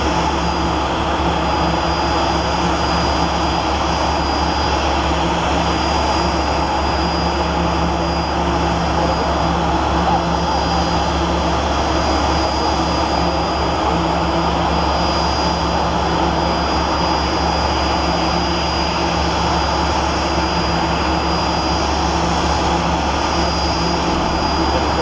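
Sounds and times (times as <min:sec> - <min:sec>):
aircraft engine whine and drone: 0:00.0 - 0:25.0.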